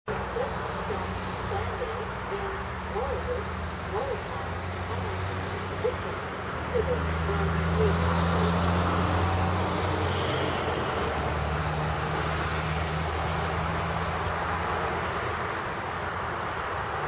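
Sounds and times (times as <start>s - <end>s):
diesel locomotive engines droning: 0.1s - 17.0s
wheels rumbling on rail: 0.1s - 17.0s.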